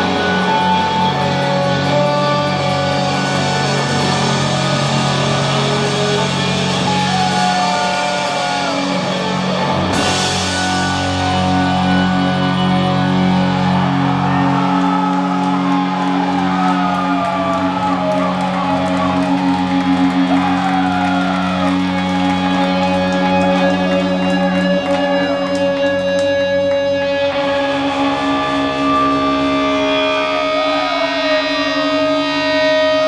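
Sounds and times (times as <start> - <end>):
distorted guitars and bass droning: 0.0 - 33.0
lead guitar bending notes: 0.0 - 33.0.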